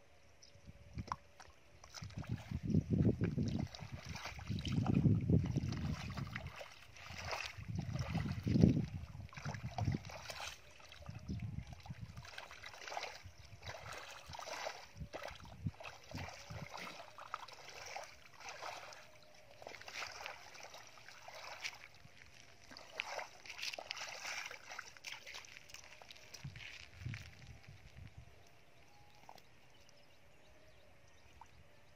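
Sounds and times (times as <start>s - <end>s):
bare feet squelching through mud: 1.0s - 28.6s.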